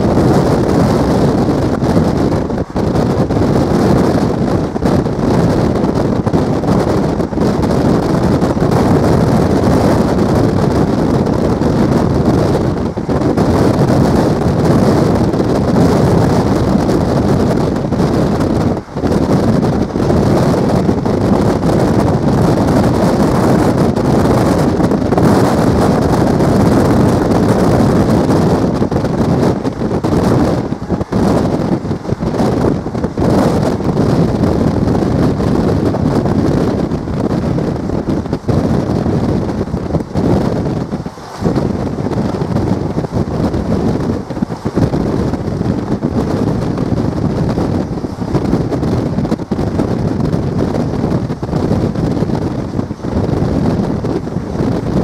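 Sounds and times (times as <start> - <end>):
train running noise: 0.0 - 55.0
wind buffeting microphone: 0.0 - 55.0.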